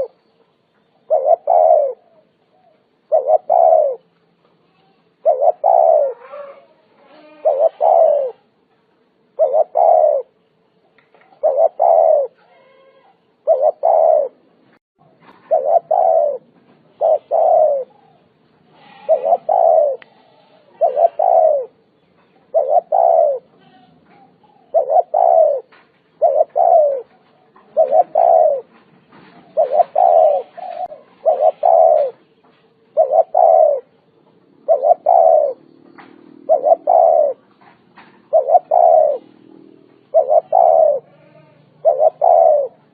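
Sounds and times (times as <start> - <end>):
dove cooing: 0.0 - 0.2, 1.0 - 4.1, 5.1 - 8.5, 9.4 - 10.4, 11.2 - 14.6, 15.2 - 21.8, 22.4 - 42.9.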